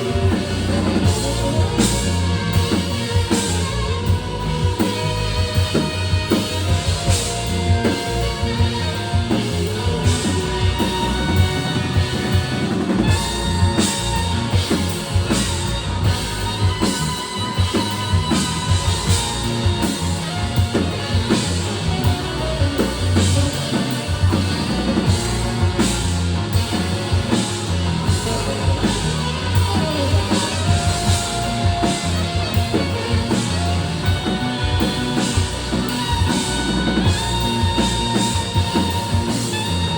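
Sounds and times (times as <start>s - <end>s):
bass: 0.0s - 39.9s
drum kit beat: 0.0s - 39.9s
rock music: 0.0s - 39.9s.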